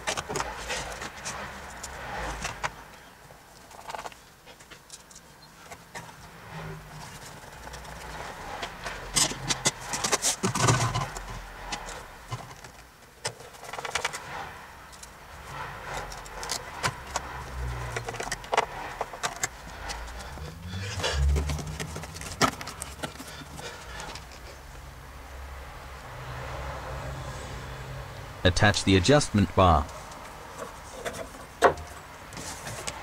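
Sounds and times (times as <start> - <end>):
handling rustles: 0.0 - 24.8, 29.8 - 33.0.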